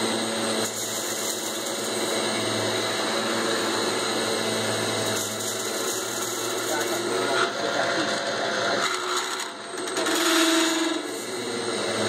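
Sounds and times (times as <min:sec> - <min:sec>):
metal lathe drilling workpiece: 0:00.0 - 0:12.0.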